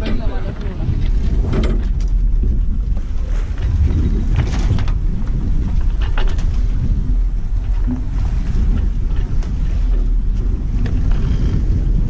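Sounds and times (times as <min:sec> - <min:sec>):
water rushing against hull: 0:00.0 - 0:12.0
wind rumbling on microphone: 0:00.0 - 0:12.0.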